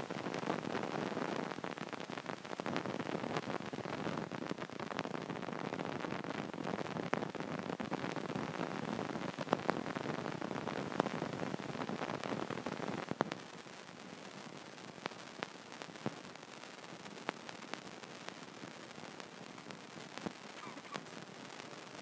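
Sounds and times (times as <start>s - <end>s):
recording noise hiss: 0.0s - 22.0s.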